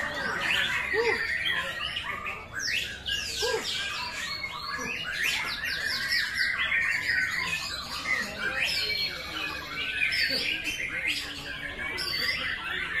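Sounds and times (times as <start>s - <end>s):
songbird whistling and chirping: 0.0s - 13.0s.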